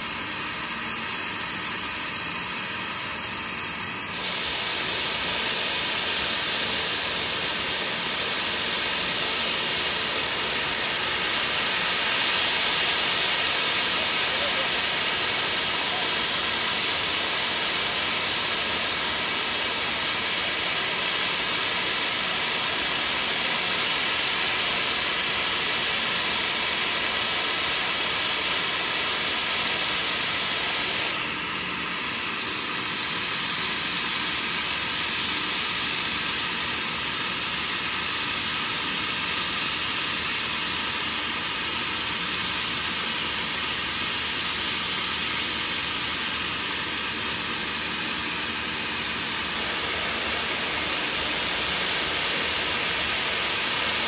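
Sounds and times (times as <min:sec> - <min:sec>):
small plane engines running: 0:00.0 - 0:54.0.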